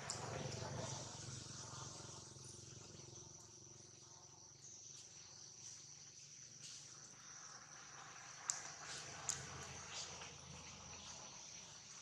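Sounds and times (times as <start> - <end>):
high-pitched insect trilling: 0.1 - 12.0.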